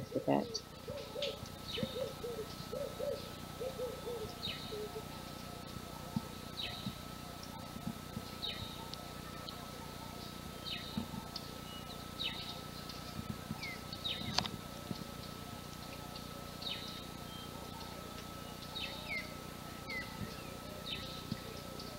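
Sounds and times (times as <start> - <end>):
low rounded bird calls: 0.0 - 21.9.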